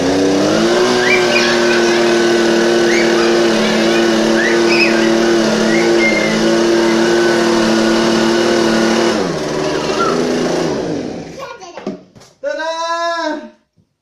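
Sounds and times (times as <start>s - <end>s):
motor running steadily: 0.0s - 11.4s.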